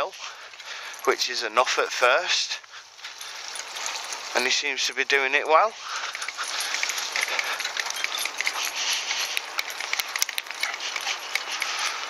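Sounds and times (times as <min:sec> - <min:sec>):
metallic clinks and rattles: 0:00.0 - 0:12.0.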